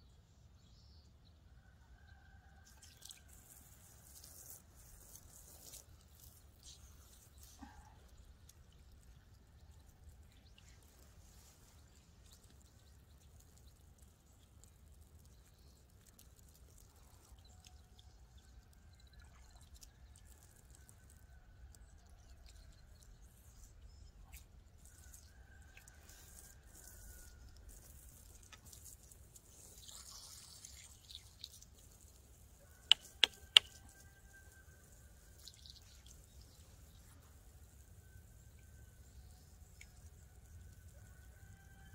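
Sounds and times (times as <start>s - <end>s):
water trickling onto ground: 2.6s - 41.9s.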